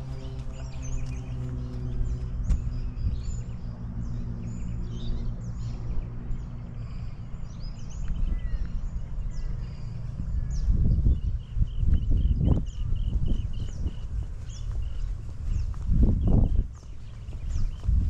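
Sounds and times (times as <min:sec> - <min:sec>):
low rumble on microphone: 0:00.0 - 0:18.0
small birds chirping and whistling: 0:00.1 - 0:18.0.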